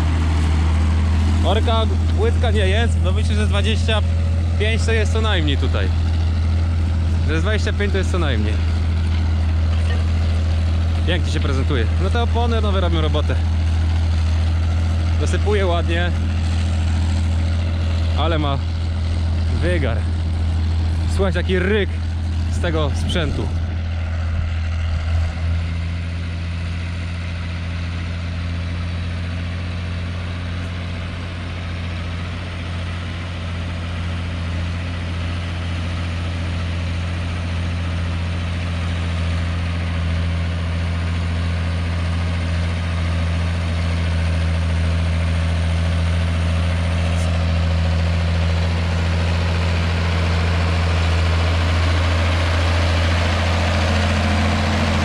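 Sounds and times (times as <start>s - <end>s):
tractor diesel engine roaring: 0.0s - 55.0s.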